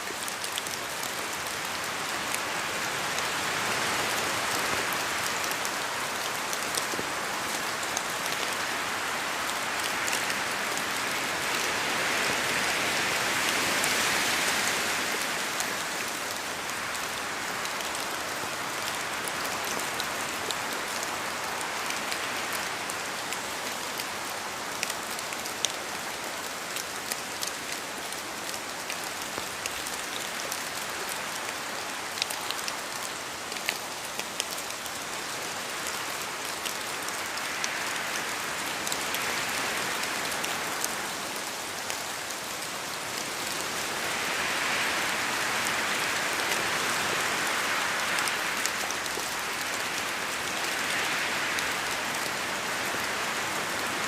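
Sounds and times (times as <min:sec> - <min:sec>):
steady rain in a forest: 0:00.0 - 0:54.0.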